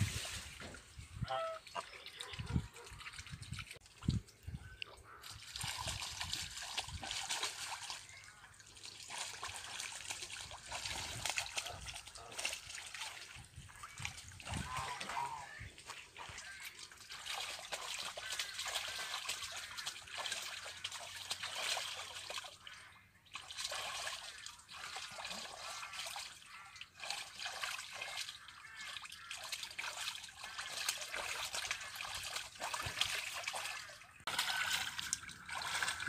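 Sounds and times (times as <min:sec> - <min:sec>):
water splashing and sloshing: 0:00.0 - 0:36.0.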